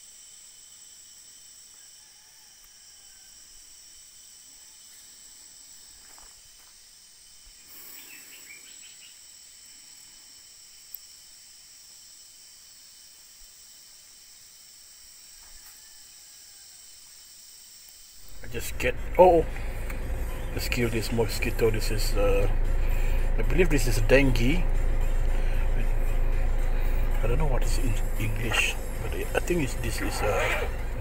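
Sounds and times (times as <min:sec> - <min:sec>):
insect chirping: 0:00.0 - 0:31.0
insects chorus: 0:00.0 - 0:31.0.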